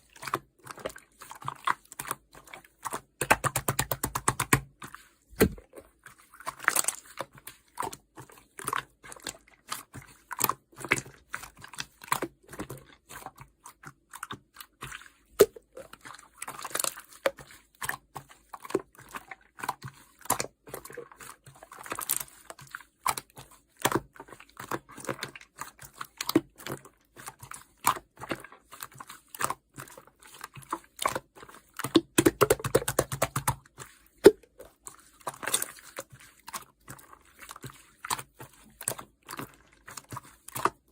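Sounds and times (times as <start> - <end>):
slime squishing with sticky clicks: 0.0 - 40.9.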